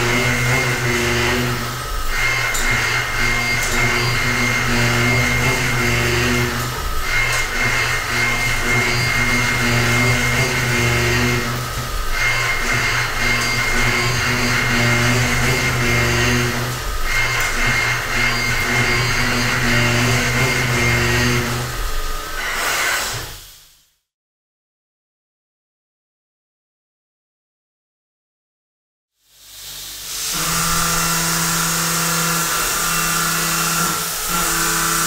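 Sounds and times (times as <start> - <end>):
face mill cutting metal: 0.0 - 23.5, 29.7 - 35.0.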